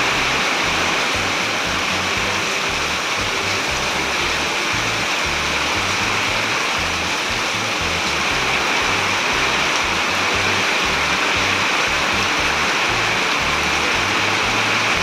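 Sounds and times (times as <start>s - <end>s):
background music bass line: 0.0s - 15.0s
heavy rain hissing: 0.0s - 15.0s.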